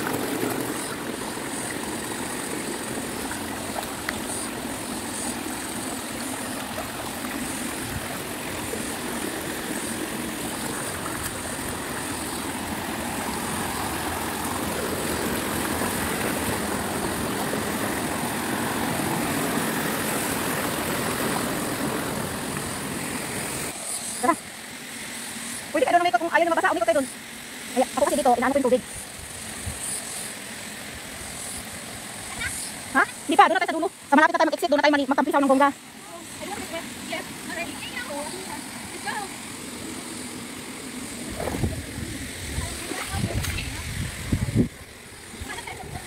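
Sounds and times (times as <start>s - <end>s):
stream water flowing: 0.0s - 46.0s.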